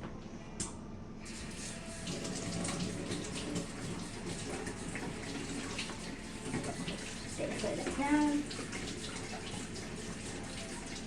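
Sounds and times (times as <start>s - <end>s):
tap water running into sink: 1.3s - 11.0s.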